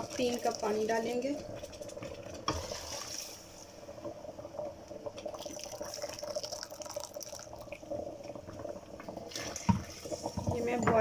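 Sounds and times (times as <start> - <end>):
water bubbling on hot mix: 0.0 - 11.0.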